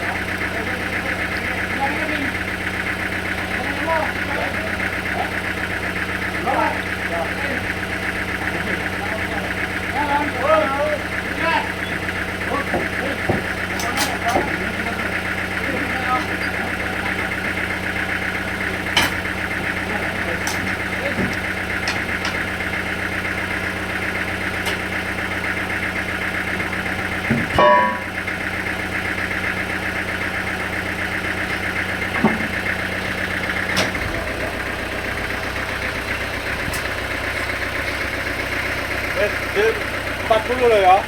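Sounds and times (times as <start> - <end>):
sawmill engine drone: 0.0 - 41.0.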